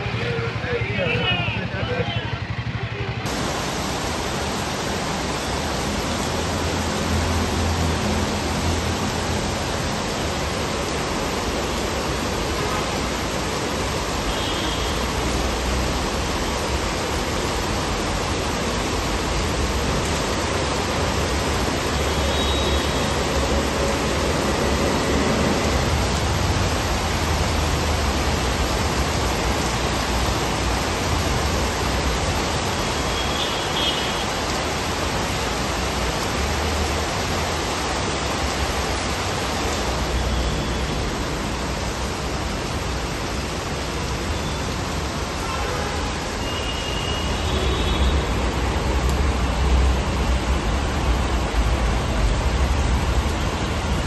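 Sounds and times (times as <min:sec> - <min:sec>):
heavy rain on pavement: 0:00.0 - 0:54.0.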